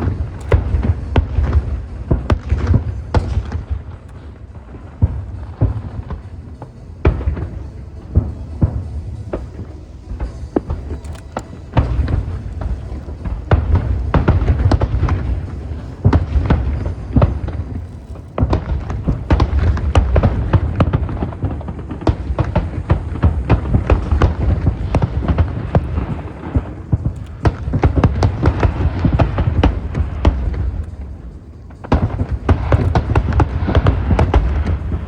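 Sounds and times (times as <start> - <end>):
fireworks sharp bangs: 0.0 - 35.0.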